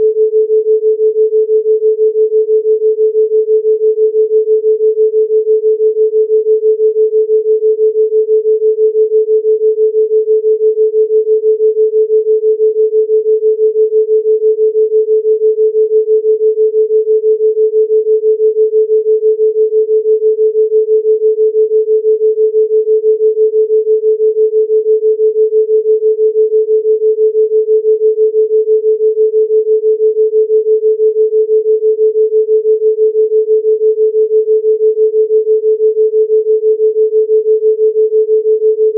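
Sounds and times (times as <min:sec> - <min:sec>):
pulsing sine tone: 0:00.0 - 0:38.9.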